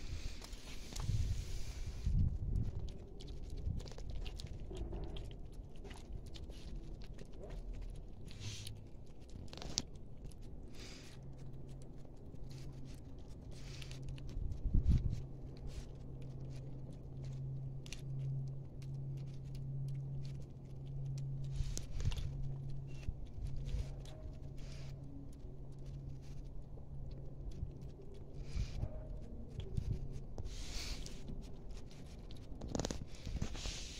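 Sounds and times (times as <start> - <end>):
kittens crunching food: 0.0 - 33.9
low steady hum: 0.0 - 33.9.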